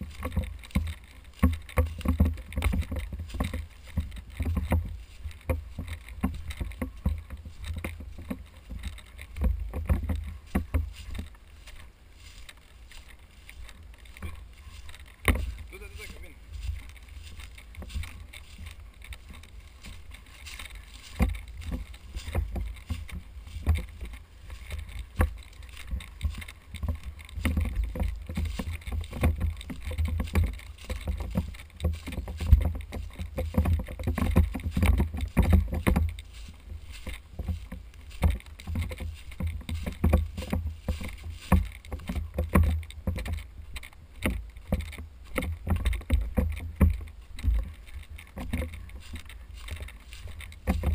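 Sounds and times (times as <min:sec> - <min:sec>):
camera jostling rumble: 0:00.0 - 0:50.9
clothing rustling: 0:00.0 - 0:50.9
footsteps crunching dry grass: 0:00.0 - 0:50.9.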